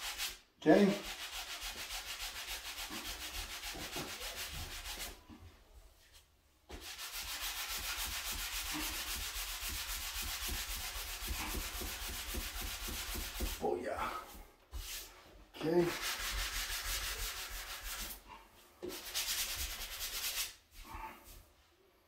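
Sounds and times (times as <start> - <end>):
sanding sponge scratching wood: 0.0 - 5.2, 6.7 - 18.2, 18.8 - 20.6.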